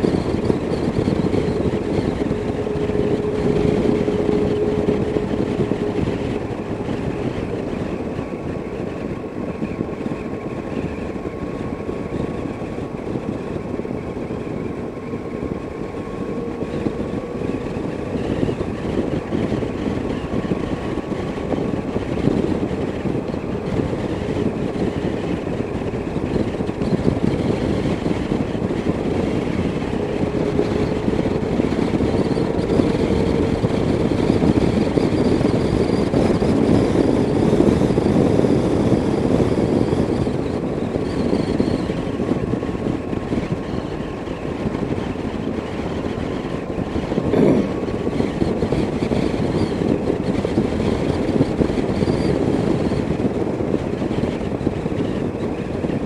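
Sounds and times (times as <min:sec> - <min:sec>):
motorcycle engine cruising: 0:00.0 - 0:56.0
wind noise: 0:00.0 - 0:56.0.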